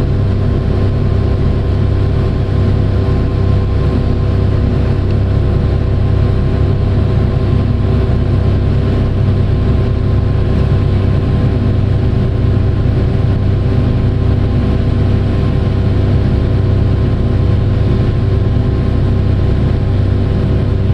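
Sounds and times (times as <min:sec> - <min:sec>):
large diesel engine running: 0:00.0 - 0:20.9.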